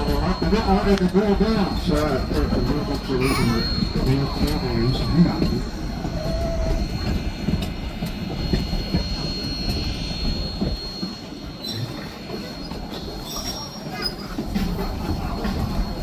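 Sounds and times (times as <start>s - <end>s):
high-pitched wheel squeal: 0.0s - 16.0s
train rumbling on rails: 0.0s - 16.0s.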